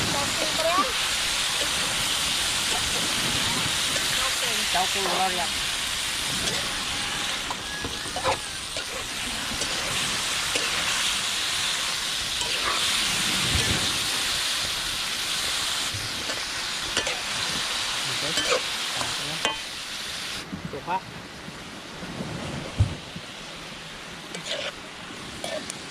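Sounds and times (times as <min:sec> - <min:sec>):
food sizzling in oil: 0:00.0 - 0:20.4, 0:24.3 - 0:25.9.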